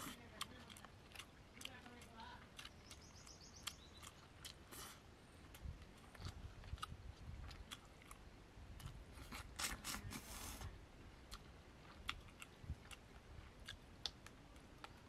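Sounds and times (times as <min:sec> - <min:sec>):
fingers mixing food on leaf: 0:00.0 - 0:08.2, 0:08.8 - 0:15.0
soft chewing: 0:00.0 - 0:15.0.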